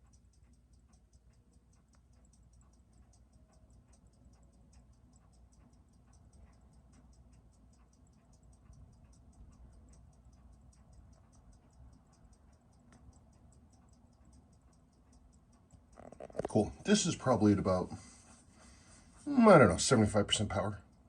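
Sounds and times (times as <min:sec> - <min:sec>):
fast watch ticking: 0:00.0 - 0:21.0.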